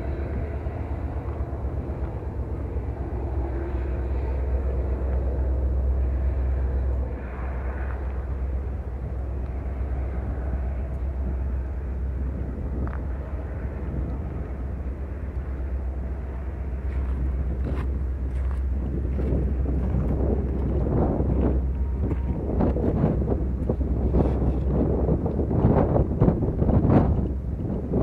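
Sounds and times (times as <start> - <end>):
diesel locomotives pulling train: 0.0 - 28.0
freight train rolling past: 0.0 - 28.0.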